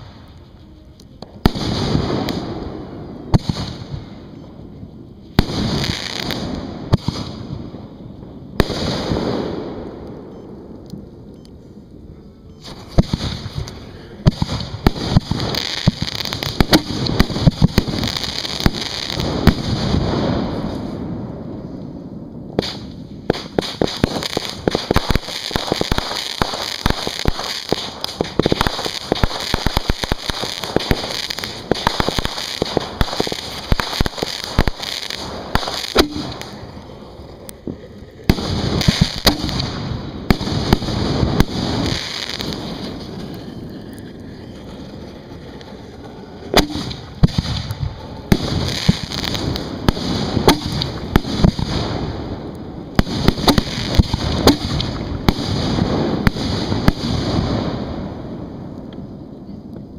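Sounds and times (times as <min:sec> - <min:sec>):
fireworks banging and crackling: 0:00.0 - 0:11.1, 0:12.6 - 0:59.9.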